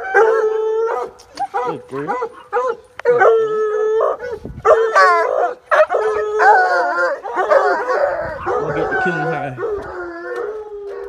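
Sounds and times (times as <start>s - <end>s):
dog howling and baying: 0.0s - 11.0s.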